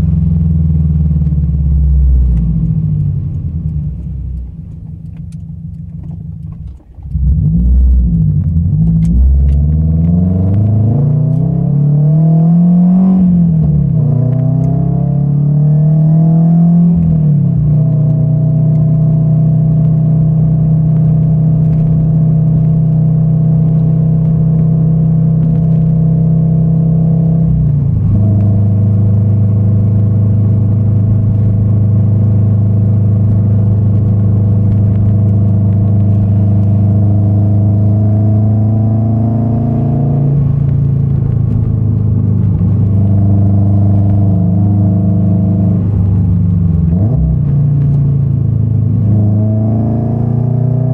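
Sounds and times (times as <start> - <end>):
loud droning car exhaust: 0.0 - 50.9.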